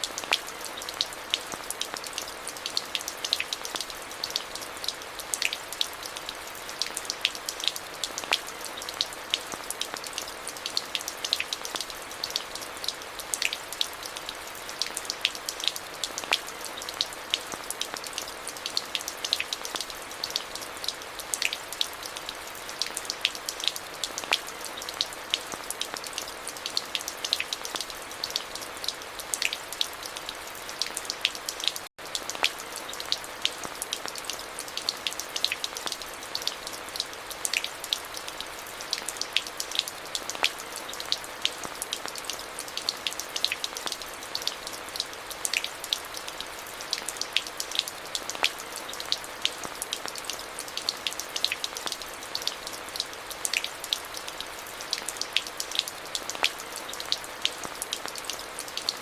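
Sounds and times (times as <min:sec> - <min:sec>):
raindrops splashing: 0:00.0 - 0:59.0.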